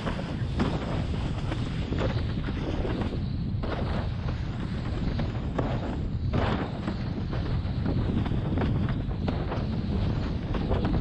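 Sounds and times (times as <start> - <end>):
board skimming choppy water: 0.0 - 11.0
wind buffeting microphone: 0.0 - 11.0.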